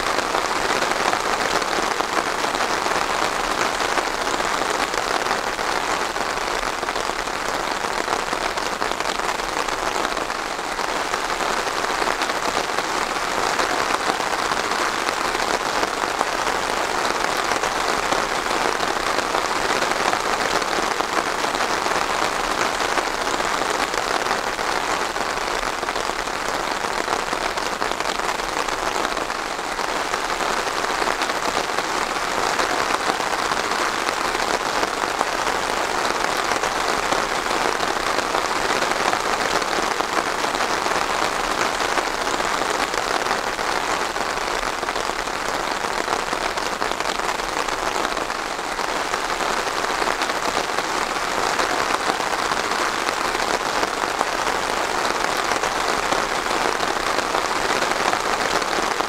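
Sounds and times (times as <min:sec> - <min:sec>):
rain pattering on hard surface: 0:00.0 - 0:59.0.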